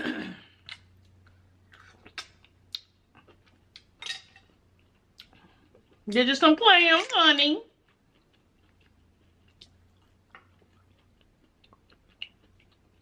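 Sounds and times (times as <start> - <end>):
faint chewing: 0.6 - 6.1, 7.7 - 13.0.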